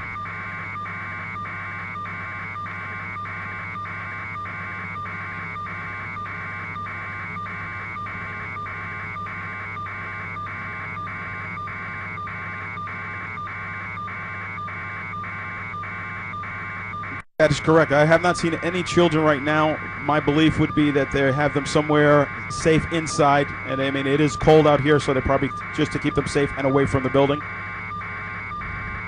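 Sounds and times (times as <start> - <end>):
low electronic hum: 0.0 - 29.0
pulsing electronic buzz: 0.0 - 29.0.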